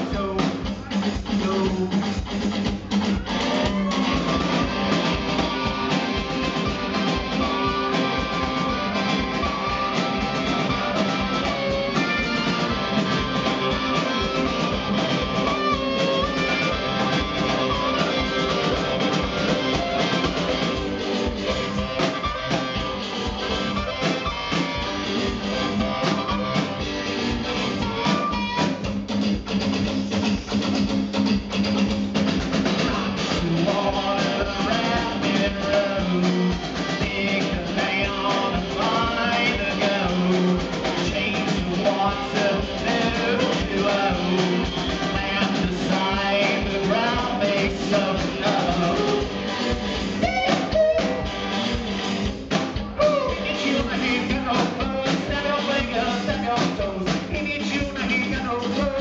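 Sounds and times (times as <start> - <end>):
drum kit: 0.0 - 59.0
electric guitar: 0.0 - 59.0
wavering guitar lead line: 0.0 - 59.0.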